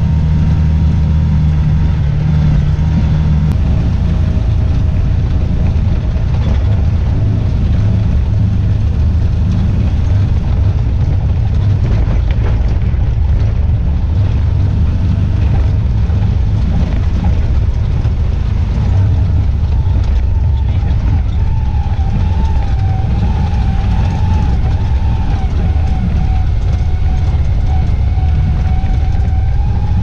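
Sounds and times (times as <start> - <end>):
engine drone: 0.0 - 30.0
small rattles and knocks: 4.3 - 30.0.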